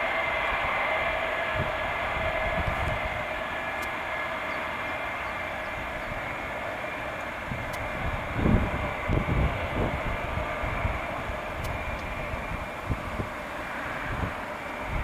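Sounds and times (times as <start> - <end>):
jet engines running with whine: 0.0 - 15.0.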